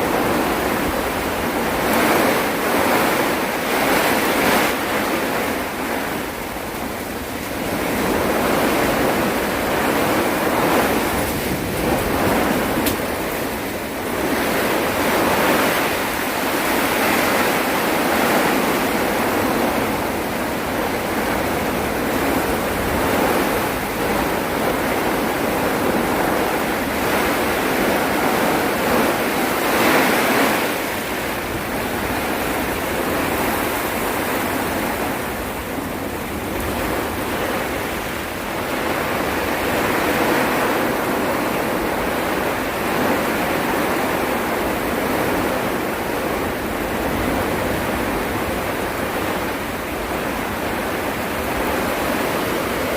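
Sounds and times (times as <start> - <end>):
heavy rain: 0.0 - 52.9
strong gusting wind: 0.0 - 52.9.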